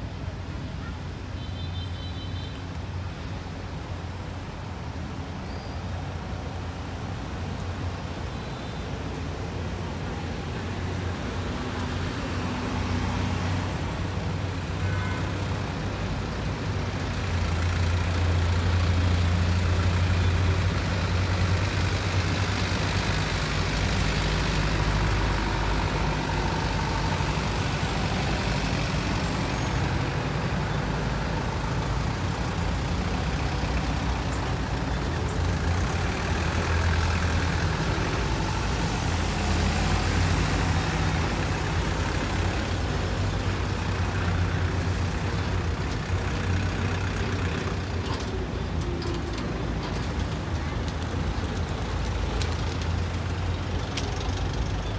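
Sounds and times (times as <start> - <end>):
trucks driving past: 8.9 - 54.9.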